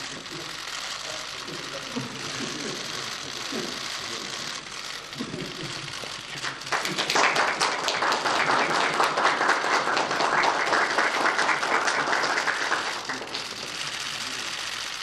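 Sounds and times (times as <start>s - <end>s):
people applauding: 0.0s - 15.0s.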